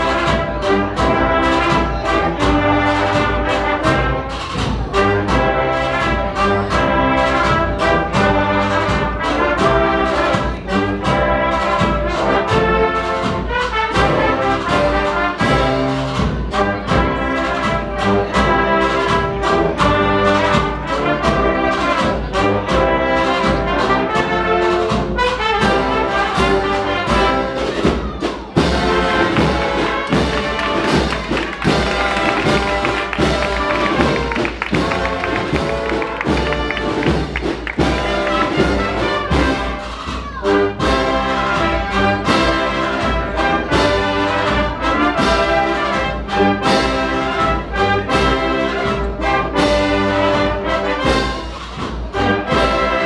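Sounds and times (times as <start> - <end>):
steady drum beat: 0.0 - 53.0
trumpets and trombones melody: 0.0 - 53.0.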